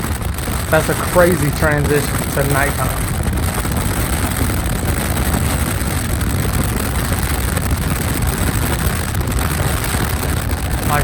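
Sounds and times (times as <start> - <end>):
wind hitting microphone: 0.0 - 11.0
wind rushing through car window: 0.0 - 11.0.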